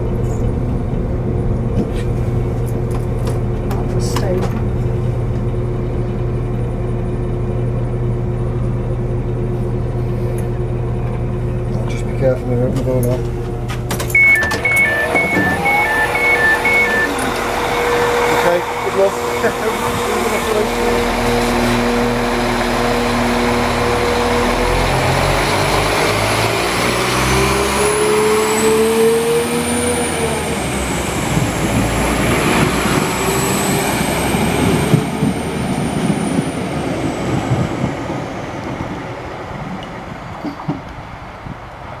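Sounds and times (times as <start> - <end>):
high whine: 0.0 - 40.0
train engine accelerating: 0.0 - 42.0.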